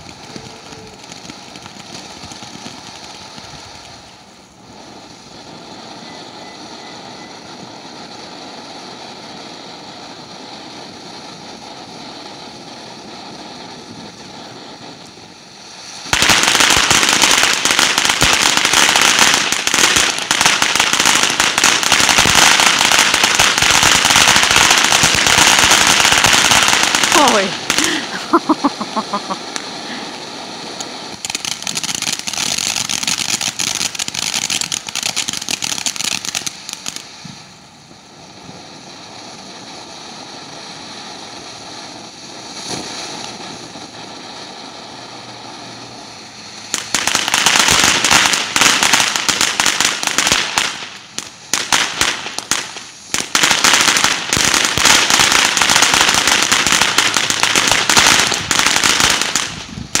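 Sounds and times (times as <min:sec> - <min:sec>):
firework fountain hissing crackle: 0:00.0 - 1:00.0.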